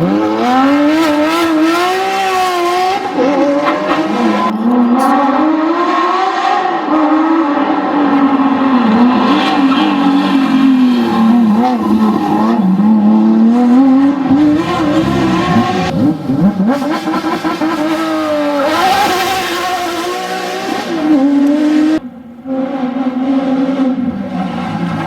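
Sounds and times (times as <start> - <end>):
car engine revving and crackling: 0.0 - 25.0.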